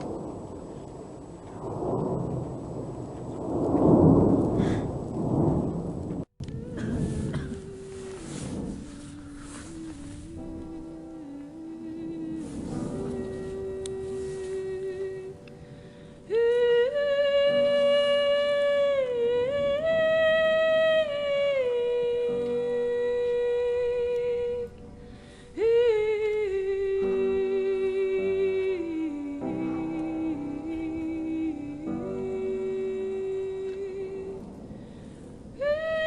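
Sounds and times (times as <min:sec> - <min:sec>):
soft musical accompaniment: 0:06.4 - 0:36.0.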